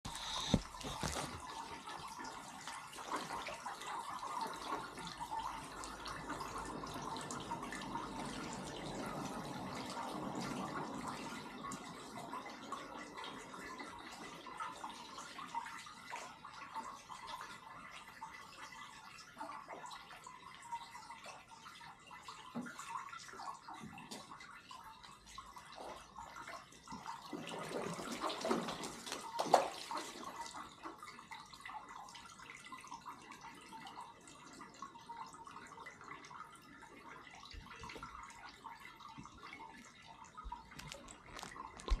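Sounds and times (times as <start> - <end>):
water splashing and dripping: 0.0 - 42.0.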